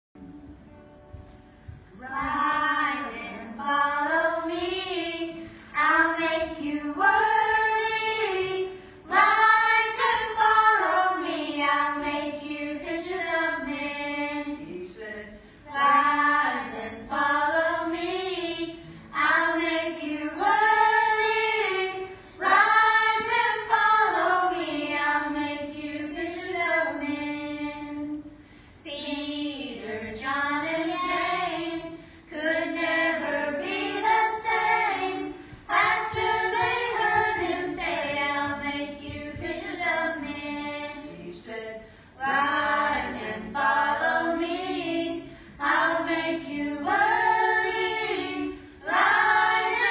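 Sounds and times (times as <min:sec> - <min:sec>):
children singing: 0:02.0 - 0:28.2, 0:29.2 - 0:49.9.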